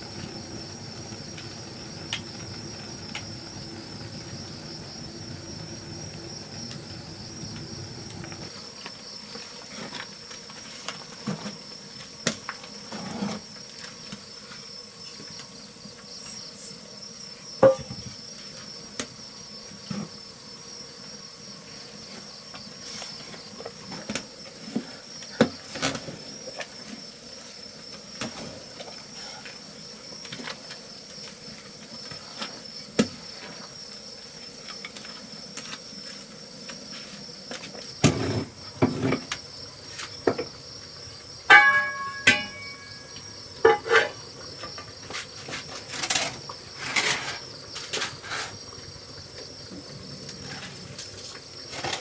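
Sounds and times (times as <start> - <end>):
insects chirping: 0.0 - 52.0.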